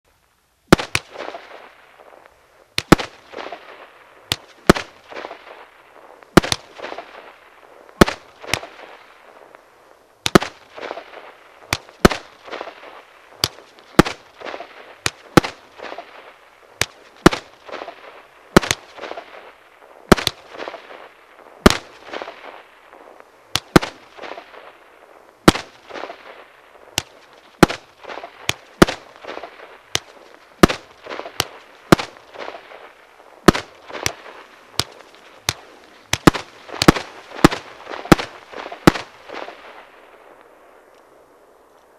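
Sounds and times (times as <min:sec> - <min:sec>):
fireworks shots: 0:00.7 - 0:40.8.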